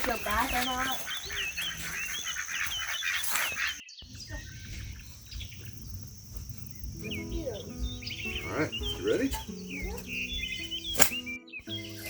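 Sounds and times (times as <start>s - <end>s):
birds chirping rapidly: 0.0s - 12.0s
outdoor background: 0.0s - 12.0s.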